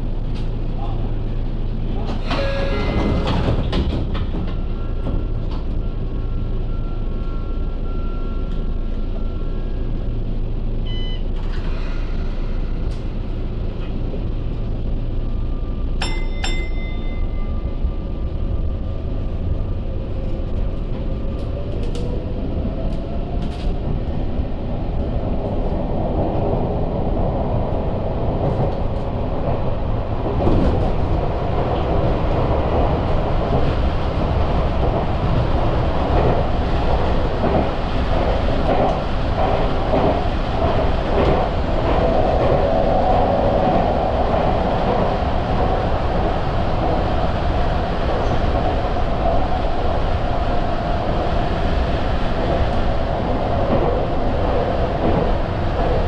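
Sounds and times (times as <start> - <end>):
electric train rumble and hum: 0.0 - 56.0.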